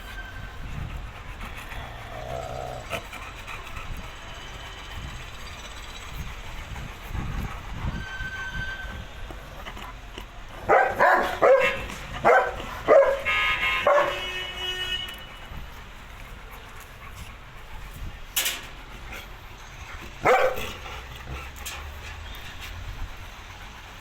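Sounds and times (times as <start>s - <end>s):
dogs barking loudly: 0.6s - 8.0s, 9.1s - 14.7s, 16.0s - 24.0s.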